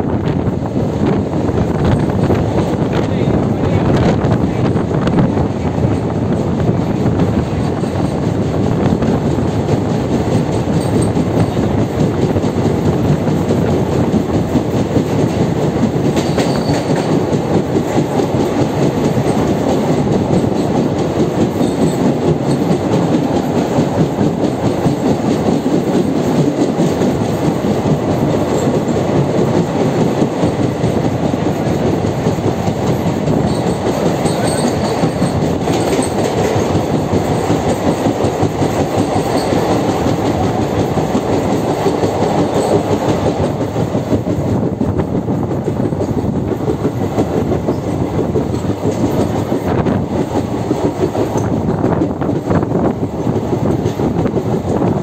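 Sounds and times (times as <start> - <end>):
train rumble: 0.0 - 55.0
wheels clickety-clack on rails: 0.0 - 55.0.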